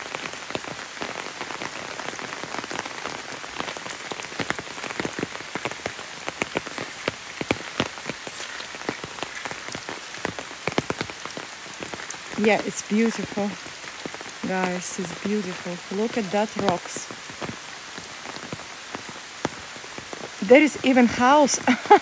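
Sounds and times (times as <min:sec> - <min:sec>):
rain drops striking an umbrella: 0:00.0 - 0:22.0.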